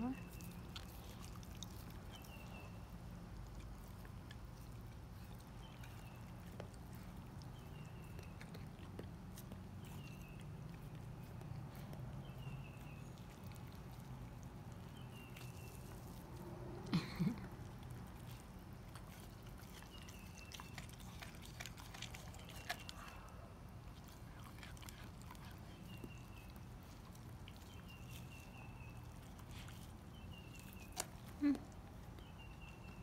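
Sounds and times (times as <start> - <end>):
dog licking and chewing: 0.2 - 33.0.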